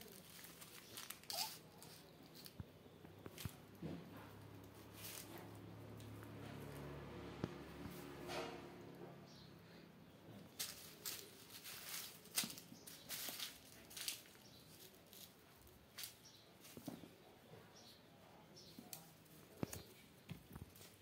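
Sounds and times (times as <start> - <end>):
kittens scuffling on tiled floor: 0.0 - 8.9, 10.3 - 17.3, 18.6 - 21.0.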